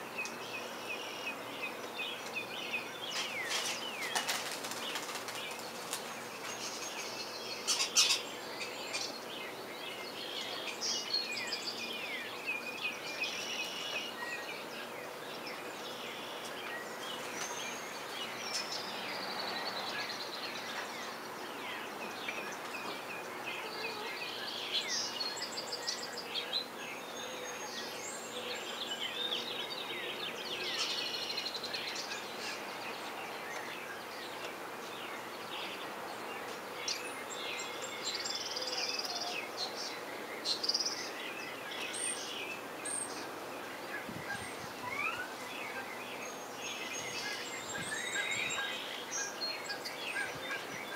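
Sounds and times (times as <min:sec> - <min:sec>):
small songbirds chirping: 0:00.0 - 0:50.9.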